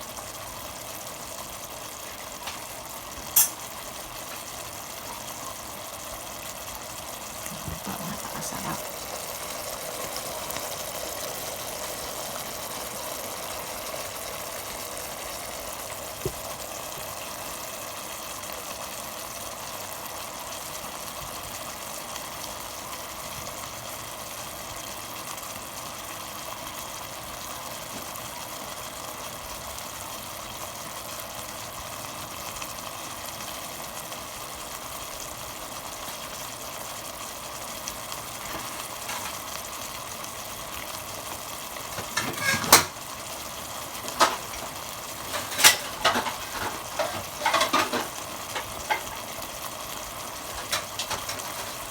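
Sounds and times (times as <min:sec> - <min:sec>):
sauce simmering in a pot: 0:00.0 - 0:51.9.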